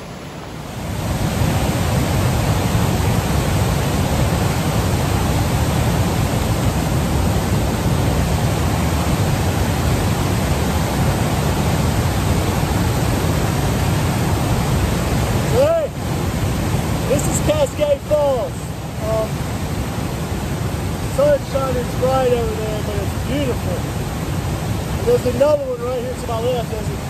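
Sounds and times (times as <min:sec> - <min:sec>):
waterfall roaring over boulders: 0:00.0 - 0:27.0.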